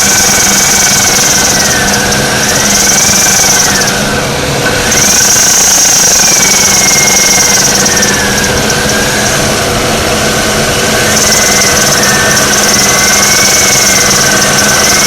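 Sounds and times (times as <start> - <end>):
car engine running: 0.0 - 15.0
high alternator whine: 0.0 - 15.0.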